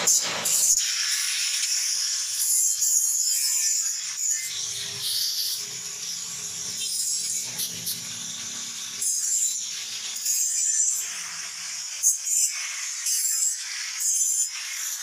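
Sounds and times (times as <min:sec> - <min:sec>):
hot blade sizzling in water: 0:00.0 - 0:15.0.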